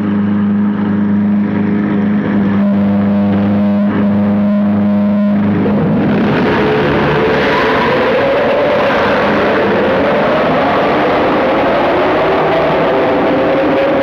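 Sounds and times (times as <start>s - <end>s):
engine running loudly: 0.0s - 14.0s.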